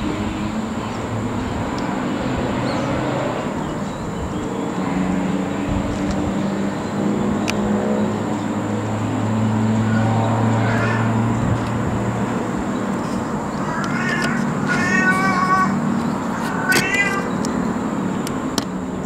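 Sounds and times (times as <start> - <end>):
vehicle engines humming: 0.0 - 19.0.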